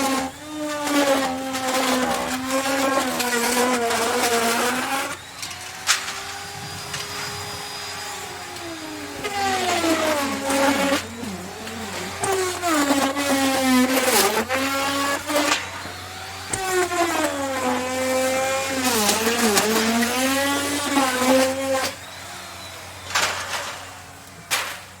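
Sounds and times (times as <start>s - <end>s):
router cutting into wood: 0.0s - 25.0s
wood router motor whine: 0.0s - 25.0s.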